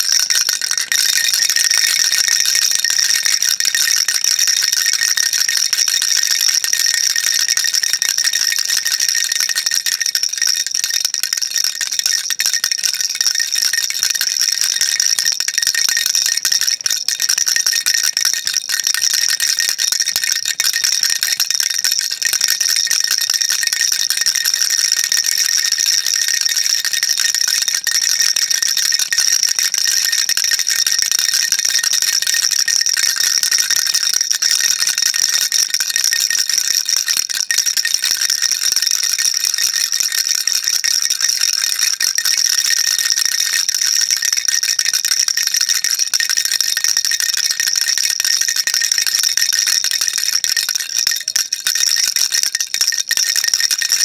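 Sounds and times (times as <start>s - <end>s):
baby rattle shaken: 0.0s - 47.2s, 48.8s - 51.7s, 52.5s - 53.9s.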